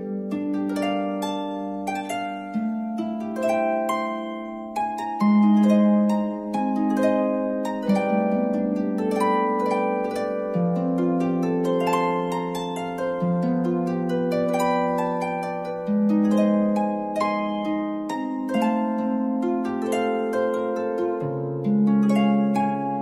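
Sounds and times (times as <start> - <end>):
gentle plucked string melody: 0.0 - 23.0.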